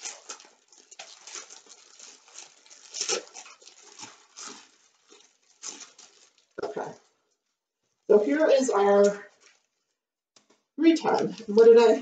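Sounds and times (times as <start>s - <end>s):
plastic bags of beads rattling: 0.0s - 12.0s.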